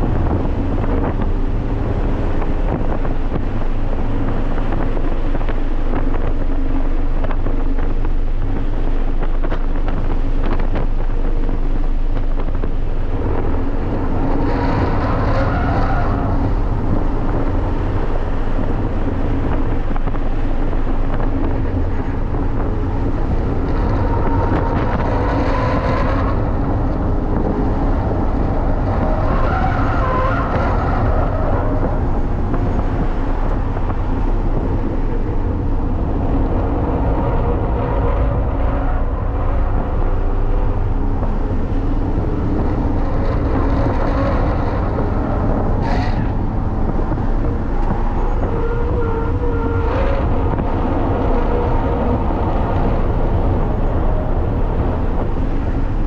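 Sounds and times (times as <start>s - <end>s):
car engine under load: 0.0s - 56.0s.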